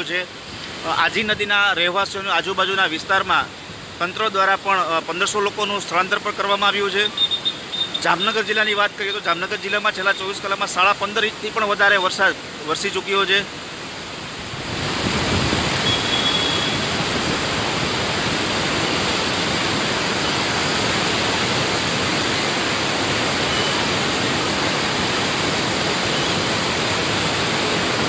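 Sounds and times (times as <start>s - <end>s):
river rushing in rapids: 0.0s - 28.0s.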